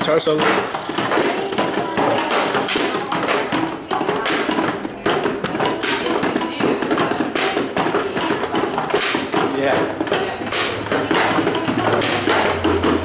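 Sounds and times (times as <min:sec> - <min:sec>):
rubber bands plucked: 0:00.3 - 0:13.0.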